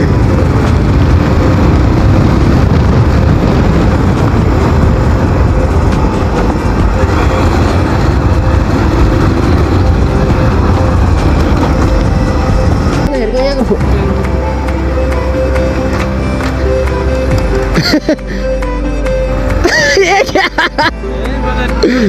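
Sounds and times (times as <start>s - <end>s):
wind rushing over microphone: 0.0s - 17.8s
motorcycle engine: 0.0s - 19.7s
road noise: 0.0s - 22.0s.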